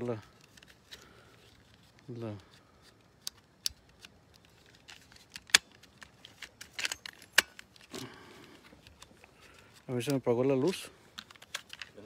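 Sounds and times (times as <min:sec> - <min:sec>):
light being handled and switched: 0:00.2 - 0:12.0.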